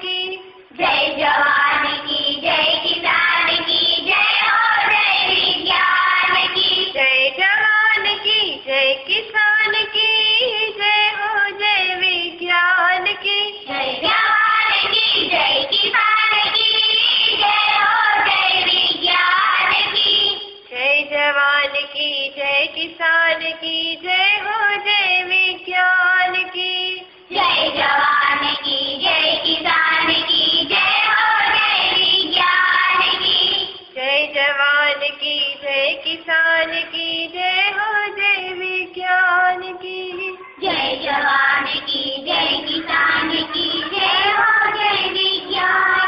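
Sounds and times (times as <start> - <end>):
child singing: 0.0 - 46.0.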